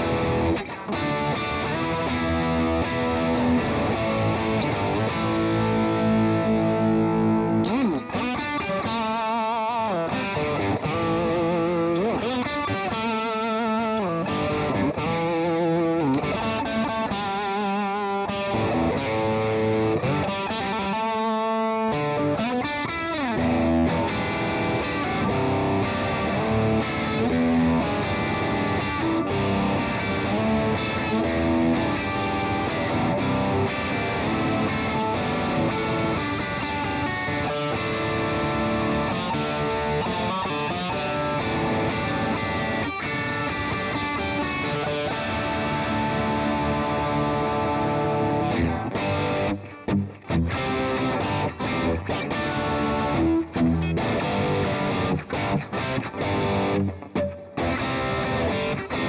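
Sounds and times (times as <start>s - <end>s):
amplified electric guitar: 0.0s - 59.0s.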